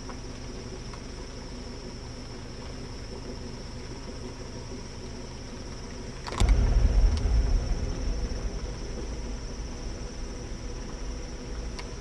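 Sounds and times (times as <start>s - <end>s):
insects chirring: 0.3s - 12.0s.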